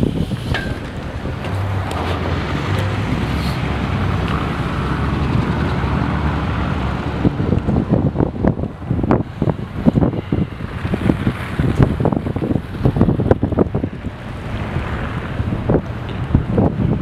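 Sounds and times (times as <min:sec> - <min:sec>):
truck engine rumbling: 0:00.0 - 0:17.0
wind buffeting microphone: 0:00.0 - 0:17.0.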